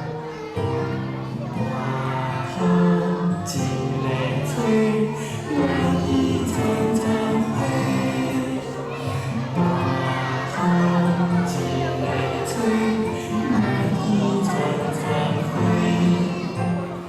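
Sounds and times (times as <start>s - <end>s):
instrumental backing music: 0.0s - 17.0s
people singing children's song: 0.0s - 17.0s.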